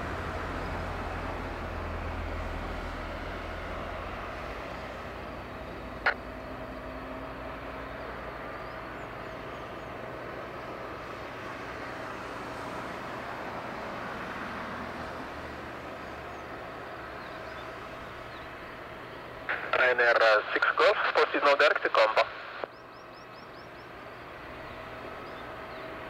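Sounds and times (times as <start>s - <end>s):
jet aircraft noise with whine: 0.0s - 26.0s.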